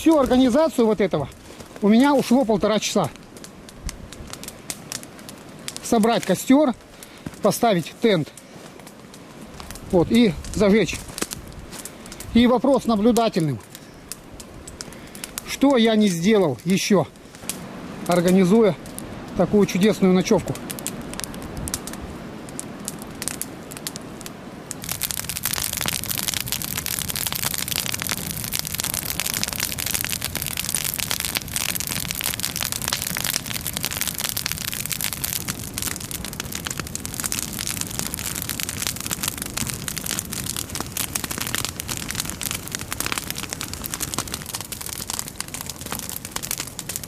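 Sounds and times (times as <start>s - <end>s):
log fire crackling and popping: 0.0s - 47.0s.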